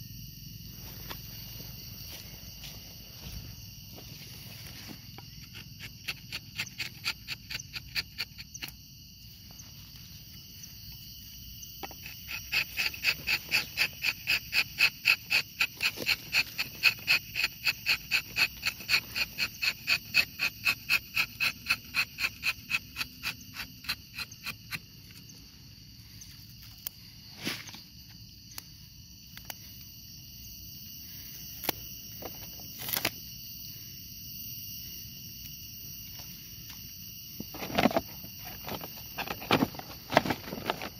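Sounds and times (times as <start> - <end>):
high insect drone: 0.0 - 40.9.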